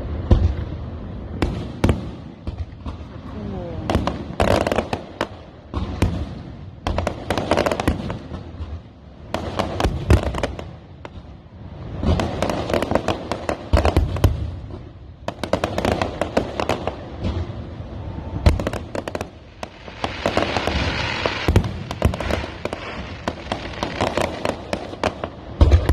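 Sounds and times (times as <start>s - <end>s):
fireworks bangs: 0.0s - 25.9s
fireworks crackling: 0.0s - 25.9s.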